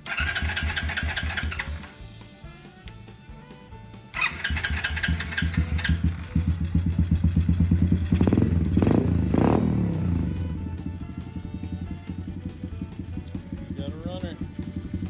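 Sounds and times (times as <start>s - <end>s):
small motorbike engine starting and revving: 0.0s - 2.2s, 4.1s - 15.0s.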